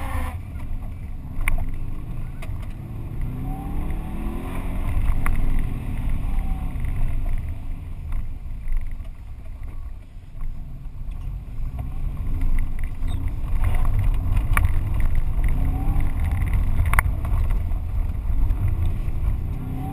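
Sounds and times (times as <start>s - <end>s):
car engine under load: 0.0s - 19.9s
heavy low rumble: 0.0s - 19.9s.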